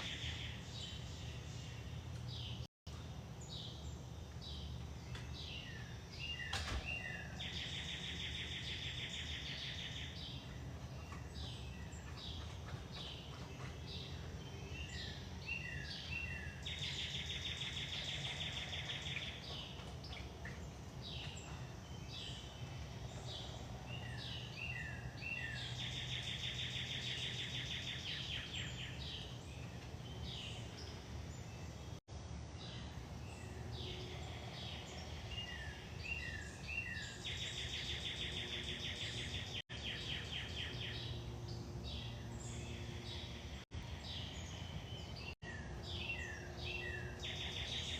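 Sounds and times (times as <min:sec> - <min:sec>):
songbird singing with trill: 0:00.0 - 0:47.9.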